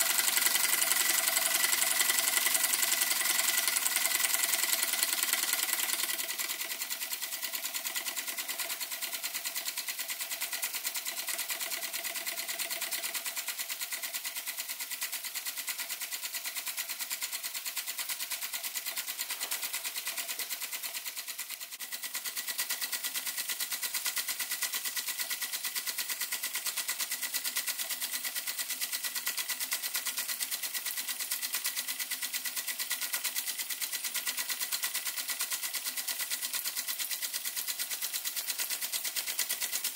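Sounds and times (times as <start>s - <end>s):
light mechanical clatter: 0.0s - 39.9s
toy steam engine exhaust puffs: 0.0s - 39.9s.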